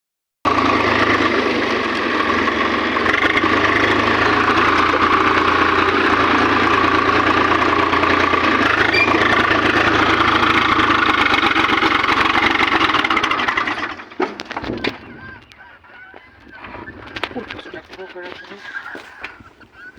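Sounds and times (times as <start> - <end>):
tractor diesel engine running: 0.5 - 19.9.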